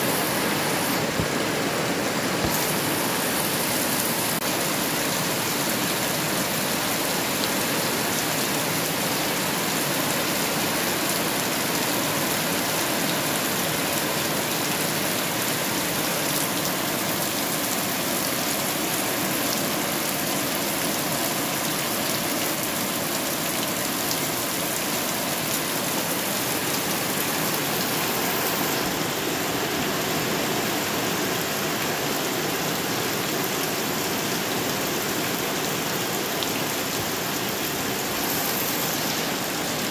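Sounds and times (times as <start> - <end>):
rain on leaves and puddles: 0.0 - 39.9.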